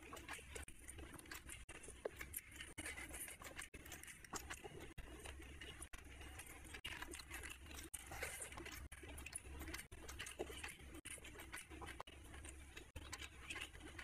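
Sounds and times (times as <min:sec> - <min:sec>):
fingers scraping a ceramic plate: 0:00.0 - 0:14.0
wet chewing and smacking: 0:00.0 - 0:14.0.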